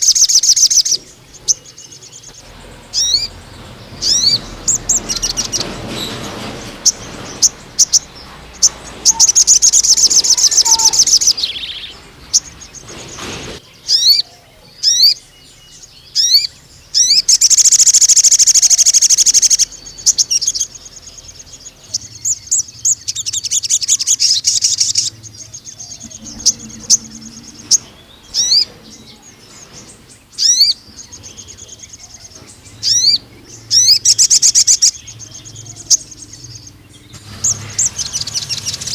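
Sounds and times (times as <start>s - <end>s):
rapid buzzing bird trills: 0.0s - 15.3s, 16.0s - 38.9s
bird chirping: 0.0s - 38.9s.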